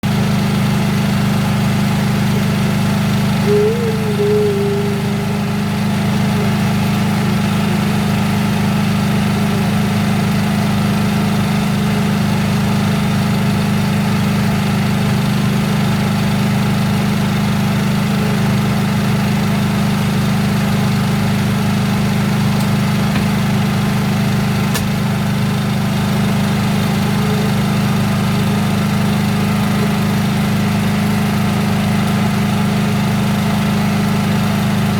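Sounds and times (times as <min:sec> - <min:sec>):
outboard engine drone: 0:00.1 - 0:34.9.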